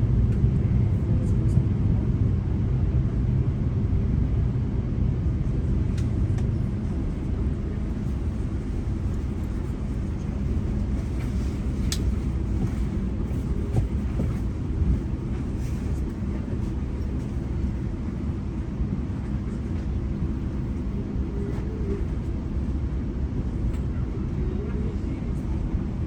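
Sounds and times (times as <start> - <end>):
train rumbling on board: 0.0 - 26.0.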